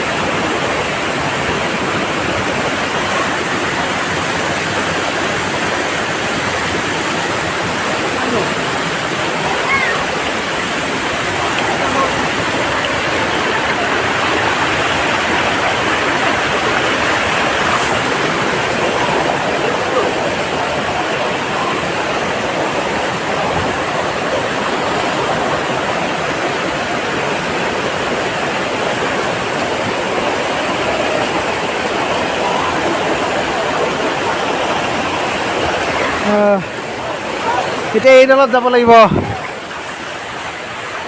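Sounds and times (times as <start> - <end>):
waterfall rushing water: 0.0 - 41.0.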